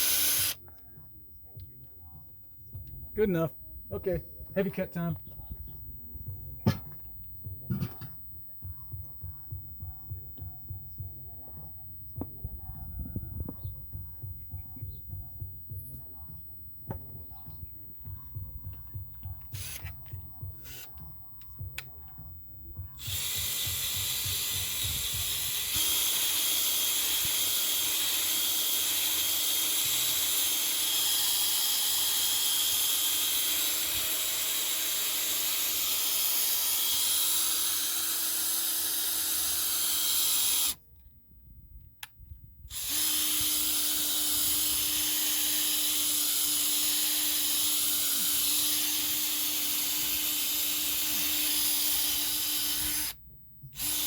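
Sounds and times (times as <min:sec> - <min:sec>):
electric buffer humming: 0:00.0 - 0:00.6, 0:02.8 - 0:21.8, 0:23.0 - 0:40.8, 0:42.7 - 0:54.0.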